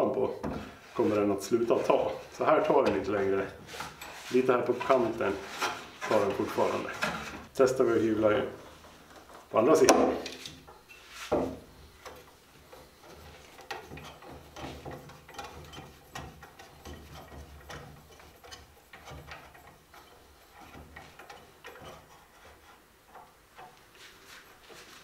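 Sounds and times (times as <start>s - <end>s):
light scrapes on wood: 0.6s - 9.5s, 10.1s - 23.3s.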